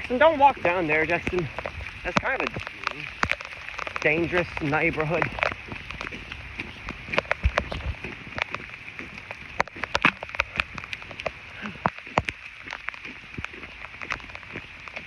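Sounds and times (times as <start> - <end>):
rain falling: 0.0 - 15.0
raindrops tapping close by: 0.0 - 15.0.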